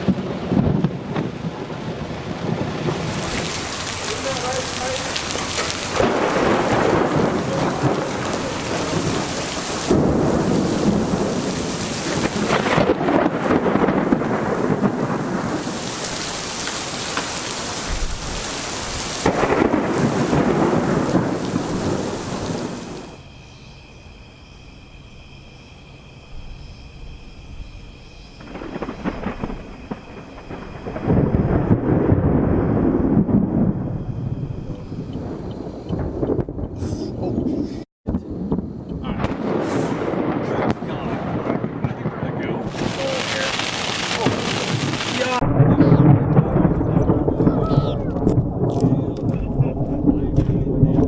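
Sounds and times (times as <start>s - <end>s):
heavy rain: 0.0s - 23.3s, 27.4s - 51.0s
rolling thunder: 0.0s - 23.3s, 26.3s - 51.0s.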